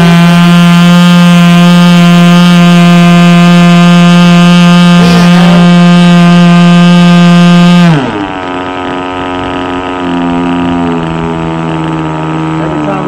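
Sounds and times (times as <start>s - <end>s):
model aircraft engine running: 0.0s - 13.0s.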